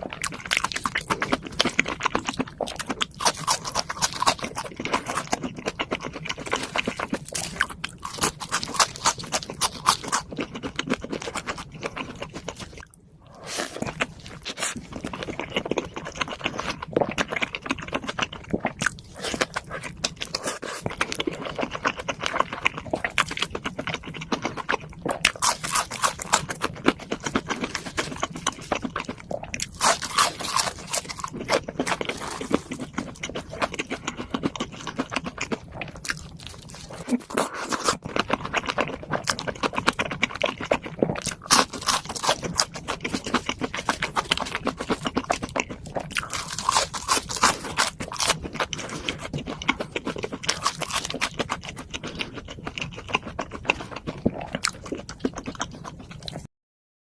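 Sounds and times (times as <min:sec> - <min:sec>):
chewing and crunching food: 0:00.0 - 0:56.5.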